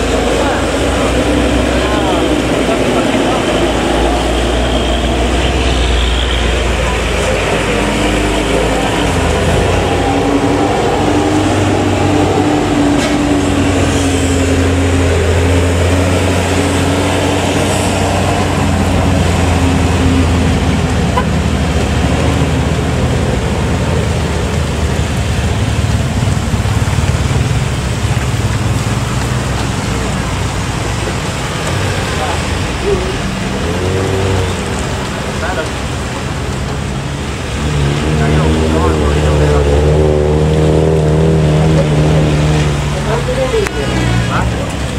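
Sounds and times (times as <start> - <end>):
cars and motorbikes passing: 0.0 - 44.9
truck diesel engine labouring: 0.0 - 44.9.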